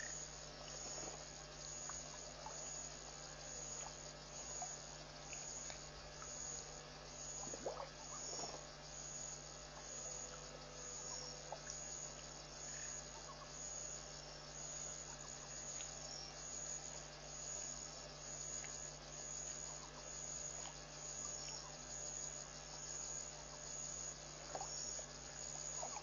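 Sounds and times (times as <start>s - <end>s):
insects chirping in pulsing trill: 0.0s - 26.0s
steady low hum: 0.0s - 26.0s.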